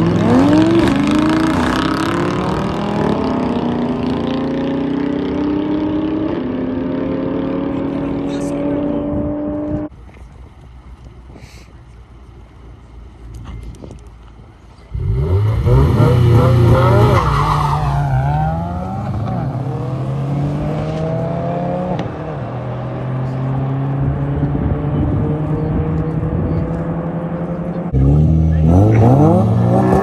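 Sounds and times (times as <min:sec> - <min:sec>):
car engine revving: 0:00.0 - 0:09.9, 0:14.8 - 0:30.0.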